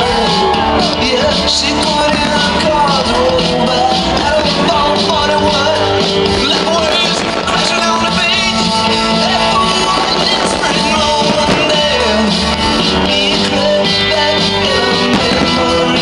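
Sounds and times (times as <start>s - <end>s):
song with singer and full band: 0.0s - 16.0s.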